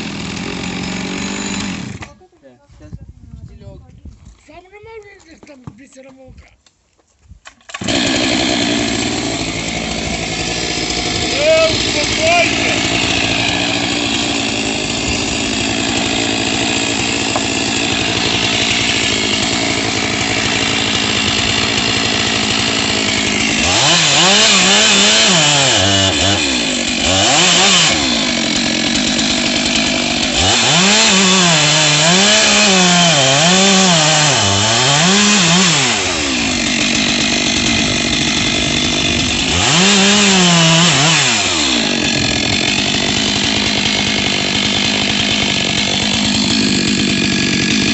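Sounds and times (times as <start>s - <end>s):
chainsaw revving: 0.0s - 2.2s, 7.7s - 47.9s.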